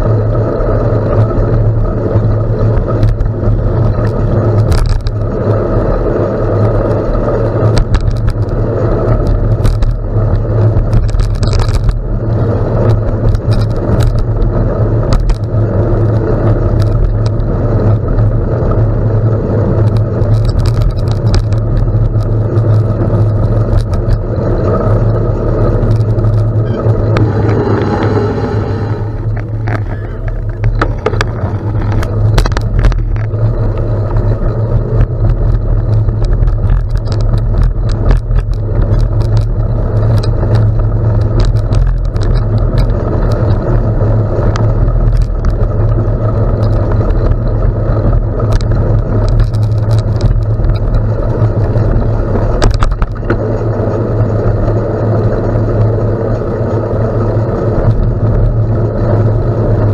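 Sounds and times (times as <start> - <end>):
stones and bike rattling: 0.0 - 59.9
tyres rolling over gravel: 0.0 - 59.9
wind buffeting microphone: 0.0 - 59.9.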